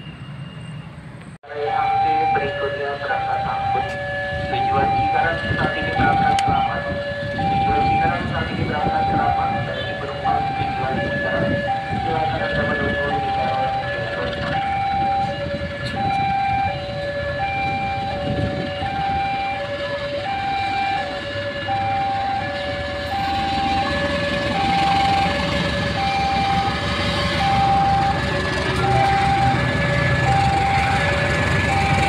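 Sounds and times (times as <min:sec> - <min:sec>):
diesel train passing: 0:00.0 - 0:32.0
level crossing two-tone alarm: 0:01.5 - 0:32.0.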